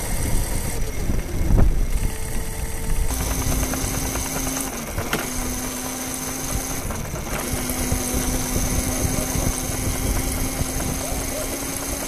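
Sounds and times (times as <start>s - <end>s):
vehicle motor humming: 0.0s - 12.0s.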